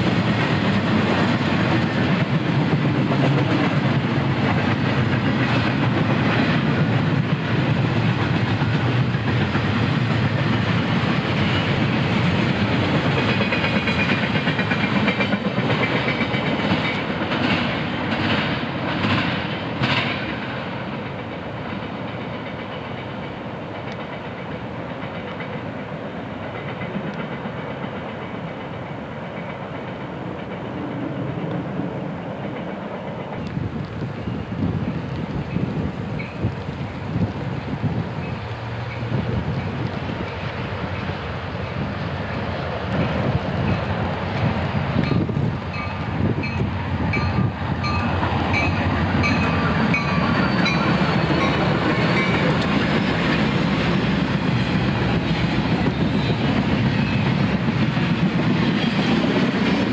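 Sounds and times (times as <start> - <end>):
clickety-clack over rail joints: 0.0 - 59.9
train wheels rumbling on rails: 0.0 - 59.9.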